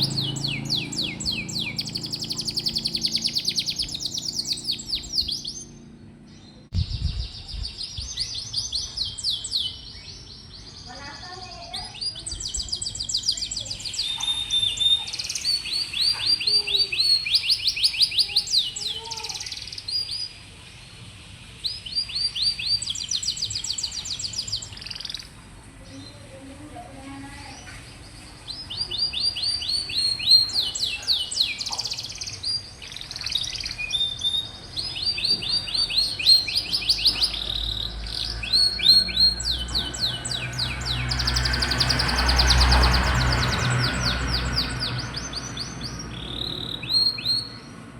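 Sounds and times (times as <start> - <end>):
canary singing trills: 0.0 - 20.6, 21.6 - 47.9.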